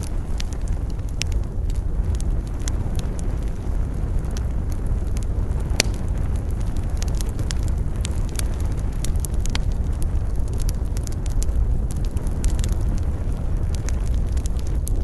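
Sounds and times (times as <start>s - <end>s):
campfire crackling and popping: 0.0s - 15.0s
low rumble of wind: 0.0s - 15.0s.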